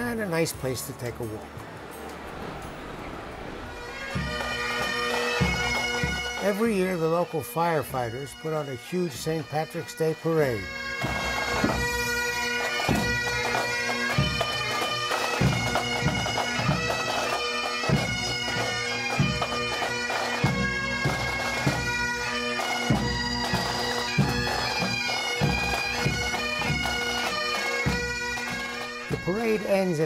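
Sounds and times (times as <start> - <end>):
drums beating time: 0.0 - 8.0, 11.0 - 30.0
bagpipes playing with drones: 0.0 - 30.0.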